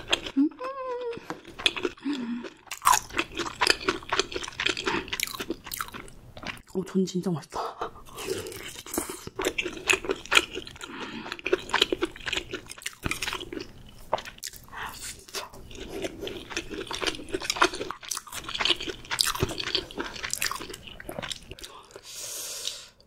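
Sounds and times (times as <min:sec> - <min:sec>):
close chewing crackles: 0:00.0 - 0:06.8, 0:08.1 - 0:22.0.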